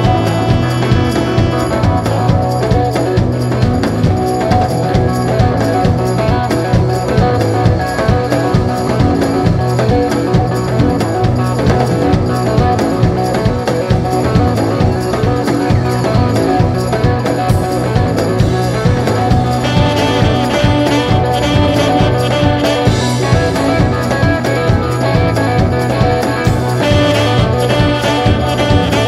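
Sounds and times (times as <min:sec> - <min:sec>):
drum kit beat: 0:00.0 - 0:29.0
rock band playing: 0:00.0 - 0:29.0.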